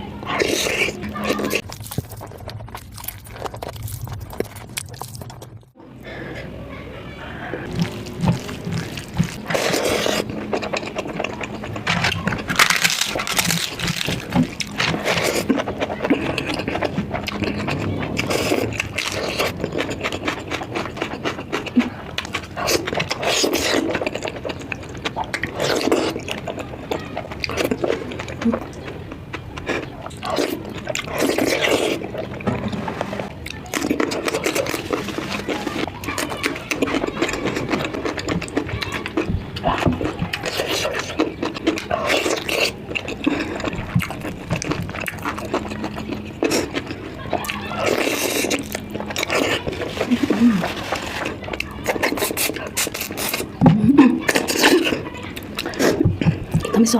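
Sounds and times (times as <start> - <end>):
person chewing and smacking: 0.2 - 5.8, 7.6 - 56.9.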